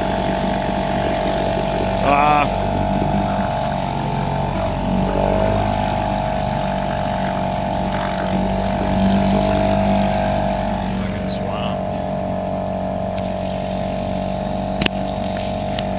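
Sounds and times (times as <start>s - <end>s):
outboard motors droning: 0.0s - 15.9s.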